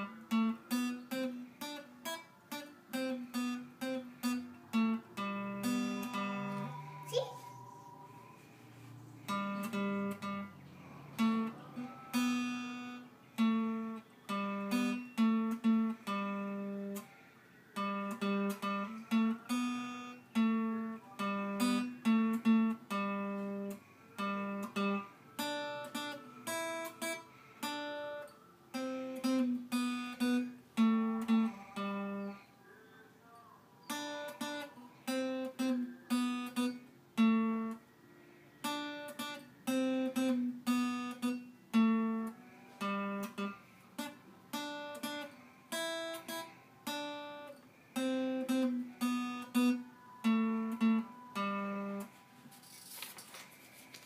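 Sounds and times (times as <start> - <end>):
acoustic guitar picked melody: 0.0 - 54.0.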